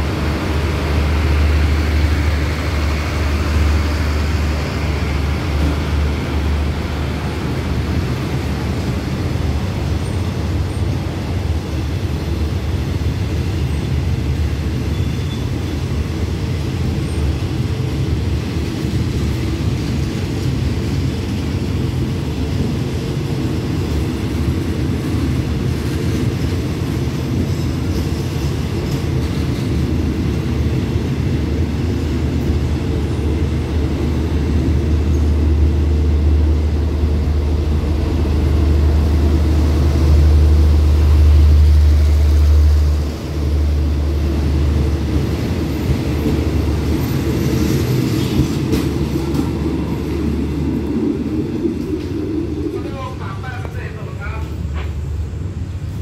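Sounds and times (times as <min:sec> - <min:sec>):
train carriages rumbling: 0:00.0 - 0:56.0.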